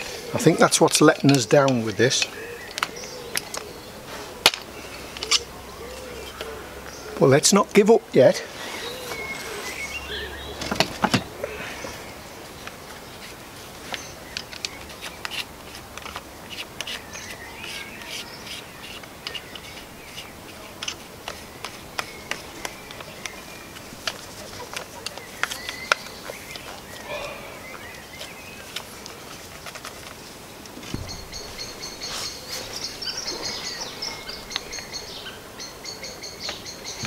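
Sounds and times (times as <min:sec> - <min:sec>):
birds chirping and calling: 0:00.0 - 0:37.0.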